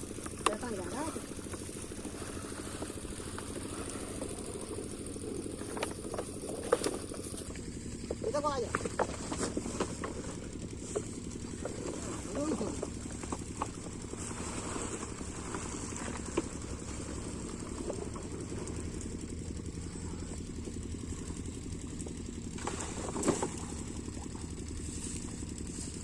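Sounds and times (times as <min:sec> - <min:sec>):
diesel engine chugging: 0:00.0 - 0:26.0.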